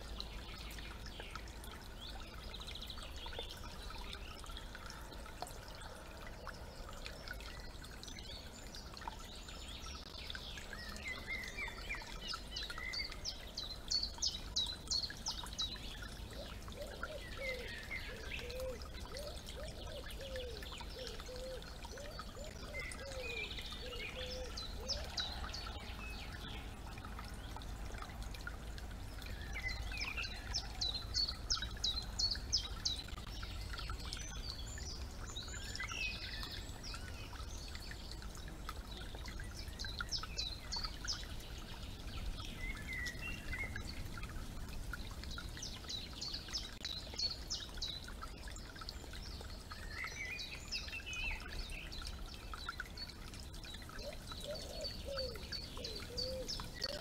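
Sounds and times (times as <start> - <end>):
birds singing: 0.0 - 28.4, 29.0 - 57.0
stream trickling: 0.0 - 57.0.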